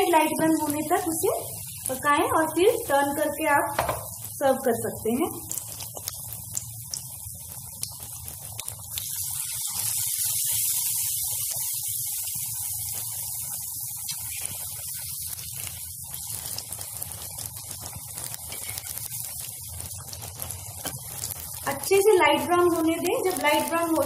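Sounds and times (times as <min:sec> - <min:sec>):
chillies deep-frying in oil: 0:00.0 - 0:24.0.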